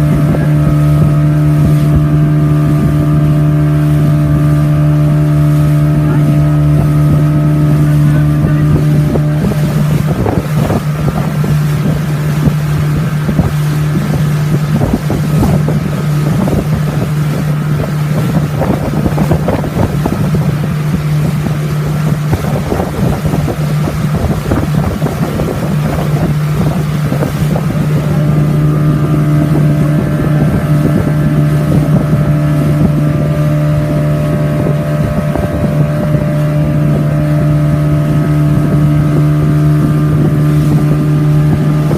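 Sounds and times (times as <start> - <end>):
choppy water: 0.0 - 41.9
motorboat engine humming: 0.0 - 41.9
wind noise: 0.0 - 41.9.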